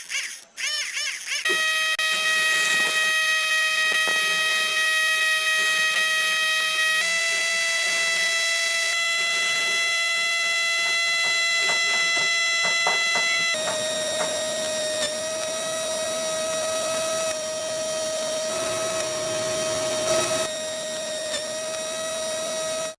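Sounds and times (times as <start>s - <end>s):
small electric motor whining: 0.0s - 22.9s.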